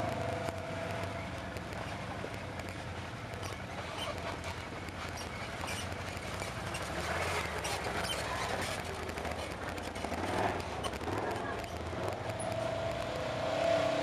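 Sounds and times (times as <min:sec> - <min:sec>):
off-road engines running: 0:00.0 - 0:14.0
tyres crackling over stones: 0:00.0 - 0:14.0.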